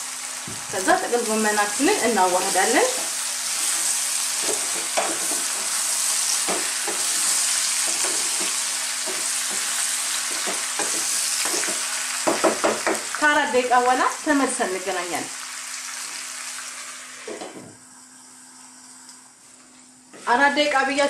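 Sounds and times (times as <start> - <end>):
cabbage sizzling in hot oil: 0.0 - 17.3.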